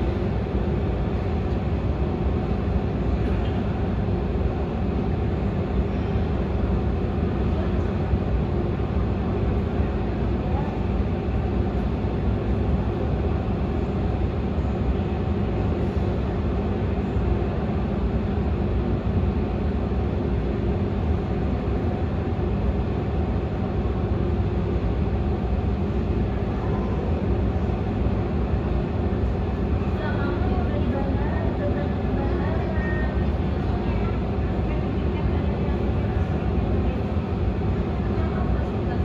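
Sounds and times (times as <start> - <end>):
airliner engines rumbling: 0.0 - 39.0.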